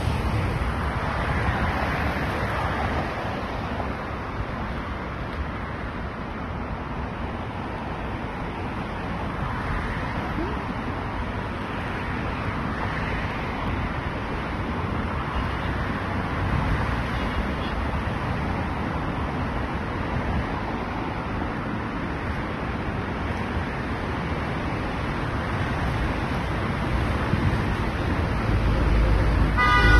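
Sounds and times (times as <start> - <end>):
distant road traffic rumble: 0.0 - 29.9.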